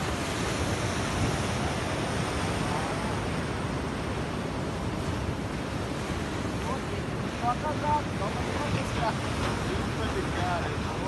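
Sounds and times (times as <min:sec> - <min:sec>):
sea surf breaking on rocks: 0:00.0 - 0:11.0.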